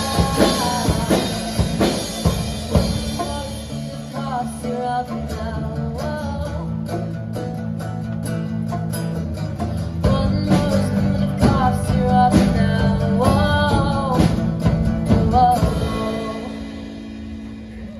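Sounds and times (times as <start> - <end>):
woman singing: 0.0 - 7.2, 10.0 - 17.3
strummed guitar chords: 0.0 - 17.9.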